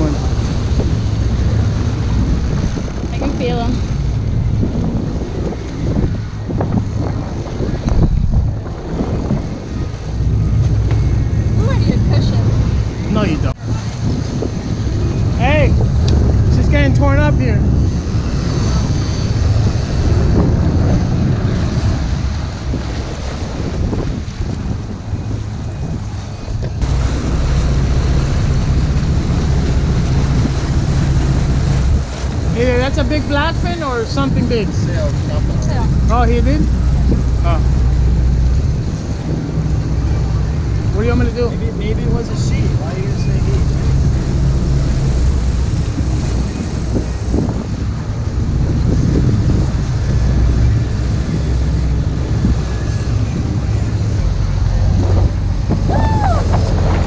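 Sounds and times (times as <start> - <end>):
boat engines droning: 0.0 - 57.0
water noise: 0.0 - 57.0
wind: 0.0 - 57.0.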